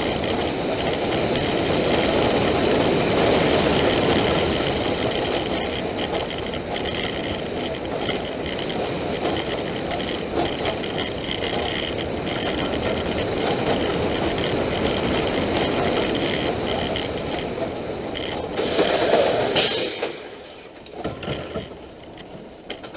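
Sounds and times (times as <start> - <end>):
roller coaster wheels rumbling: 0.0 - 22.9.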